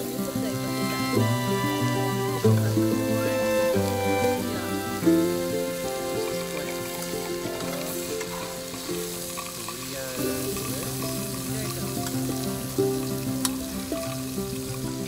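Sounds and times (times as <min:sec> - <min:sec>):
background music: 0:00.0 - 0:15.0
meat sizzling on grill pan: 0:00.0 - 0:15.0.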